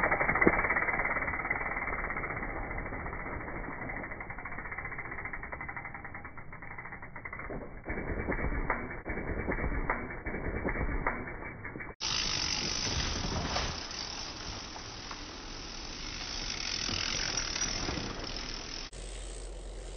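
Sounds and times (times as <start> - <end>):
bike freehub ratchet buzzing: 0.0 - 19.9.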